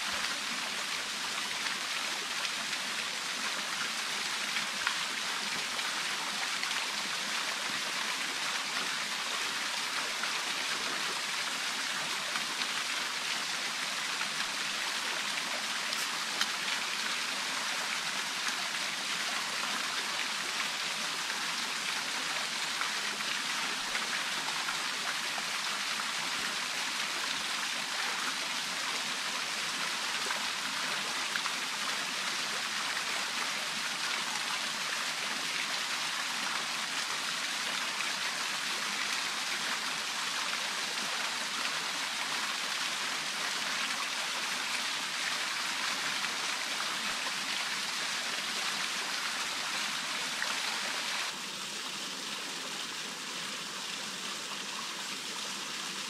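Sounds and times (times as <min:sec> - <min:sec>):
waterfall splashing into pool: 0:00.0 - 0:51.4.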